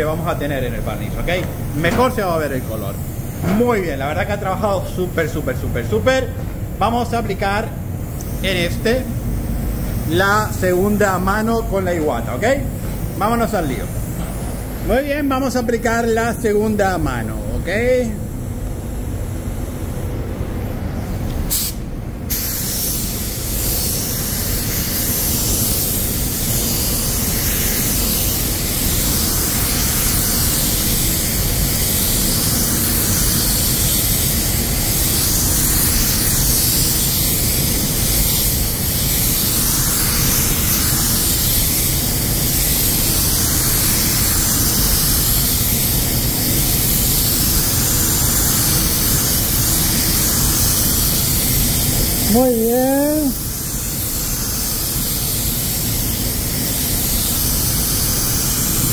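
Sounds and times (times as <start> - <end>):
paint spray gun hissing: 0.0 - 7.0, 8.0 - 16.1, 21.0 - 58.9.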